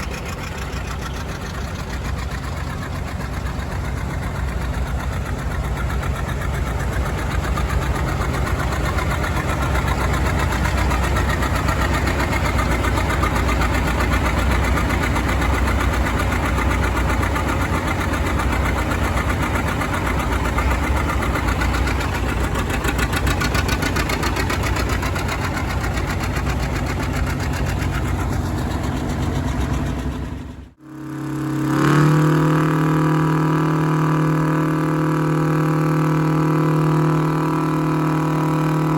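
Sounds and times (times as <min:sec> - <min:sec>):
engine running with fast beat: 0:00.0 - 0:38.9
steady droning tone: 0:00.0 - 0:38.9.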